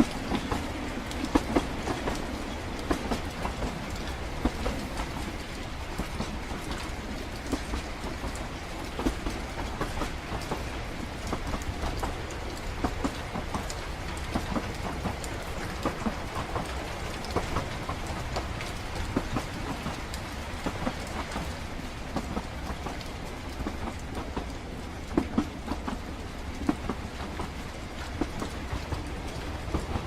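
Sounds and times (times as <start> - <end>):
train rumbling and rattling: 0.0 - 30.0.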